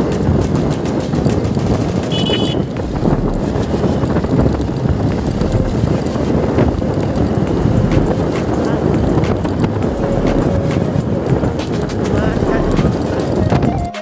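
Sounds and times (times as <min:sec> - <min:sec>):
motorcycle riding: 0:00.0 - 0:13.9
small rattles and knocks: 0:00.0 - 0:13.9
wind buffeting microphone: 0:00.0 - 0:13.9.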